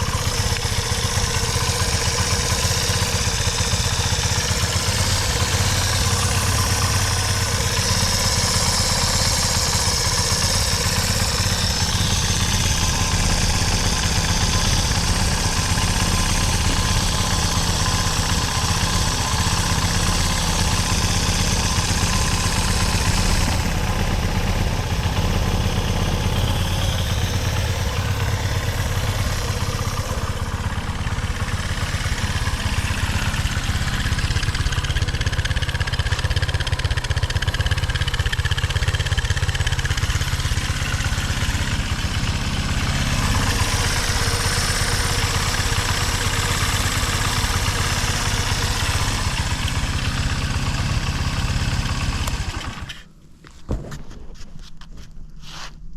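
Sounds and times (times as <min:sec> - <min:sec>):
motorcycle engine idling: 0:00.0 - 0:53.5.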